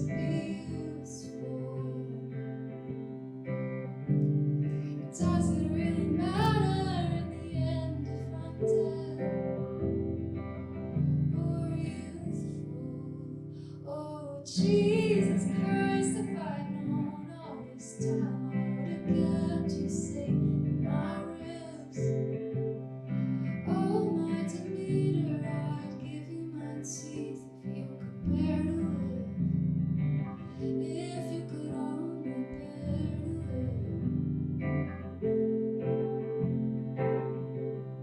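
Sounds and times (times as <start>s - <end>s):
person singing: 0.0s - 3.1s, 4.7s - 29.6s, 30.2s - 34.1s
acoustic guitar: 0.0s - 38.0s.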